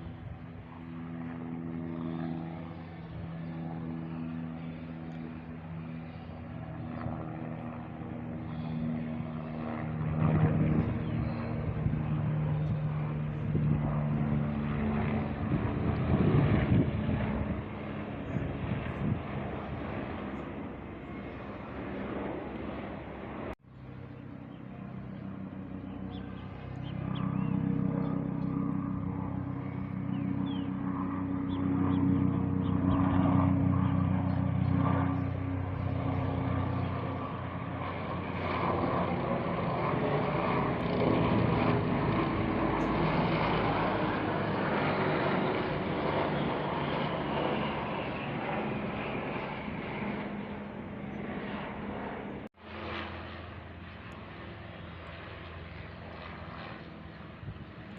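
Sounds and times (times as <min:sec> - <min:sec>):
helicopter flying overhead: 0:00.0 - 0:57.9.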